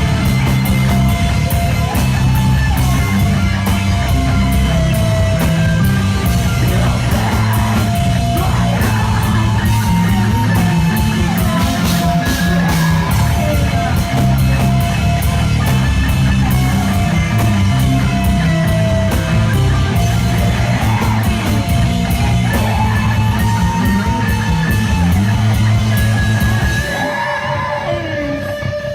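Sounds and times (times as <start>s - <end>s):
electric guitar ringing: 0.0s - 28.9s
rock band playing live: 0.0s - 28.9s.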